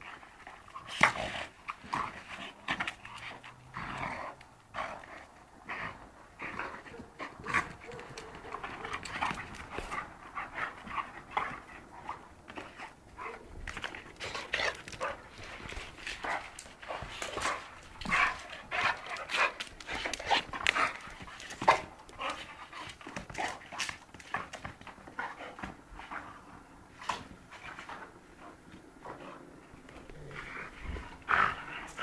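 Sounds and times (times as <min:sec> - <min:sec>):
dogs panting: 0:00.0 - 0:32.0
dogs play noises: 0:00.0 - 0:32.0.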